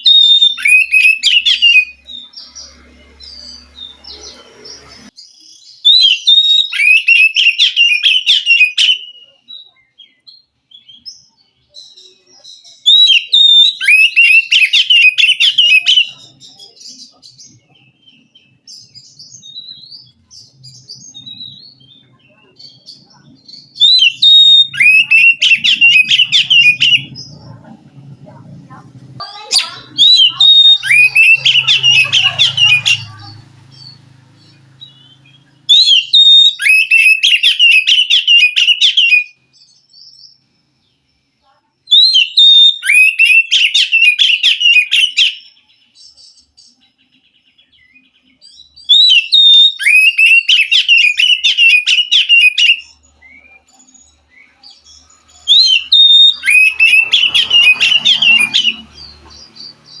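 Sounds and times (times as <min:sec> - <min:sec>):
bird song with chattering notes: 0:00.0 - 1:00.0.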